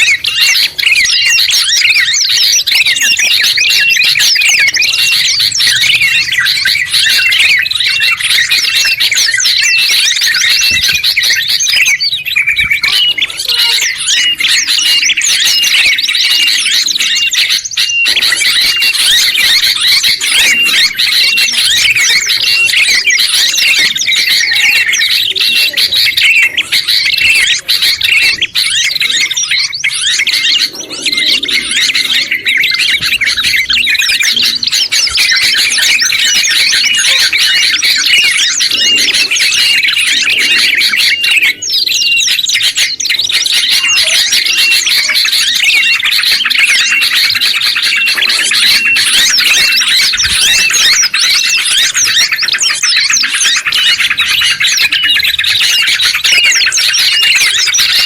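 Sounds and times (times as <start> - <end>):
songbirds singing and chattering: 0.0 - 58.0.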